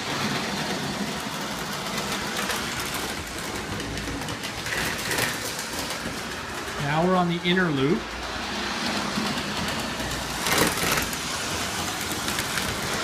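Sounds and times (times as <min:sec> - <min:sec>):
toy train motor hum: 0:00.0 - 0:13.0
toy train wheels rumbling on track: 0:00.0 - 0:13.0.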